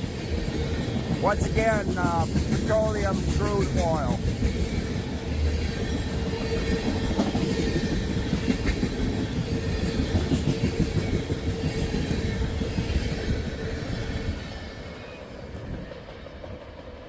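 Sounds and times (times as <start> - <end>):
train wheels clattering over rail joints: 0.0 - 14.4.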